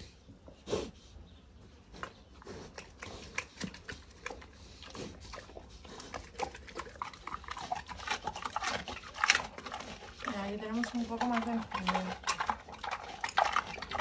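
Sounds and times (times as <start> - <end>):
pig chewing and crunching: 0.5 - 14.0.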